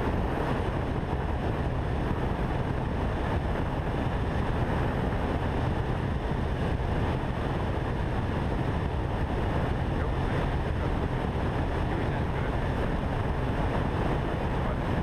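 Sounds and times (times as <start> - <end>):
propeller aircraft engine drone: 0.0 - 15.0
wind rush: 0.0 - 15.0.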